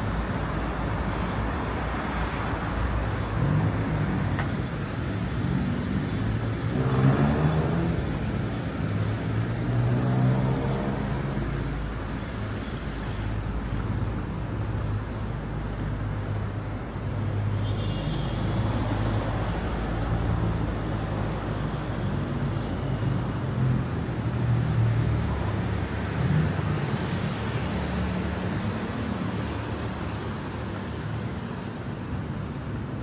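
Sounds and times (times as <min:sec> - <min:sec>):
city road traffic rumble: 0:00.0 - 0:33.0.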